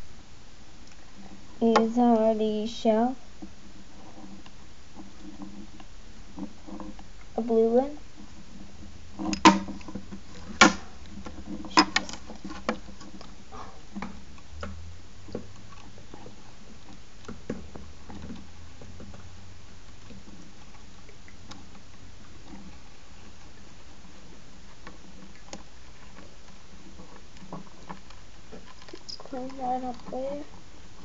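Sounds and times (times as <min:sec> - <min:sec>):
hermit crab shells clicking: 0:04.4 - 0:31.0.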